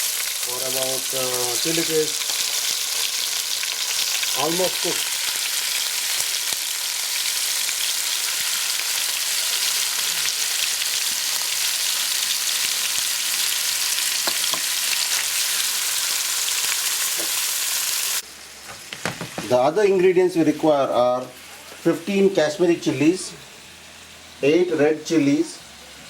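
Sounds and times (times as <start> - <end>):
chicken sizzling in a pan: 0.0 - 26.0.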